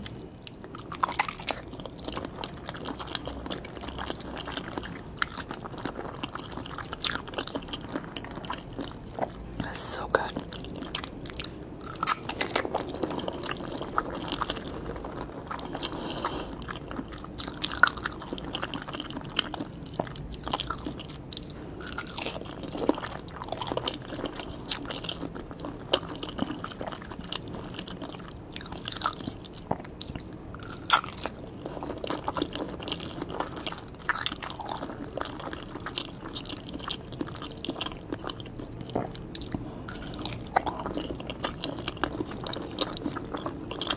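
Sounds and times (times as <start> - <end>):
wet chewing: 0.0 - 43.9.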